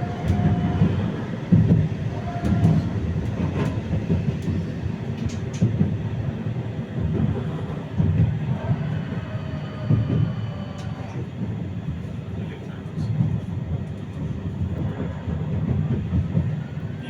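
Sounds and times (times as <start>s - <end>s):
uneven knocks of tram wheels: 0.0s - 12.1s, 13.1s - 17.0s
tram wheels rumbling on rails: 0.0s - 17.0s.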